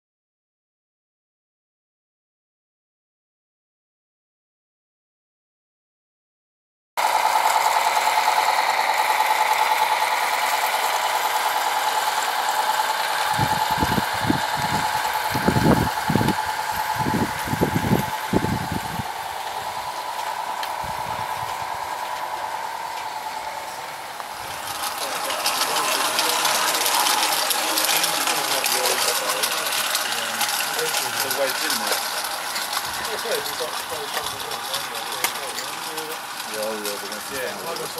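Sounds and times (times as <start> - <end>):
model locomotive mechanical whine: 7.0 - 37.9.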